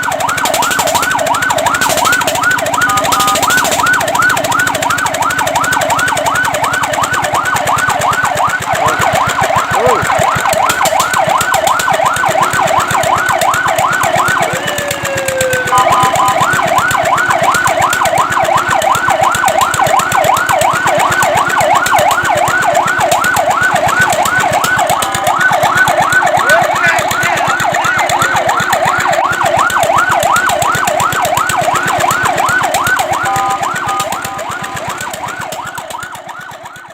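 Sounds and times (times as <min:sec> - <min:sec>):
fire truck siren yelping: 0:00.0 - 0:36.9
steady two-note siren tone: 0:00.0 - 0:36.9.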